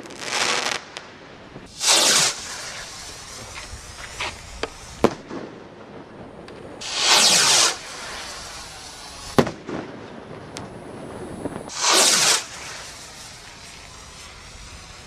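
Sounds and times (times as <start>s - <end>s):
faint firework crackles: 0.0s - 15.0s
firework rocket whoosh: 0.0s - 15.0s
firework bang: 1.6s - 15.0s.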